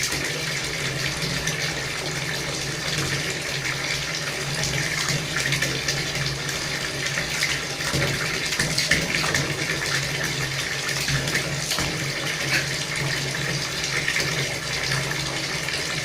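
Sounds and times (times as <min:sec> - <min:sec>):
tap water splashing into sink: 0:00.0 - 0:16.0.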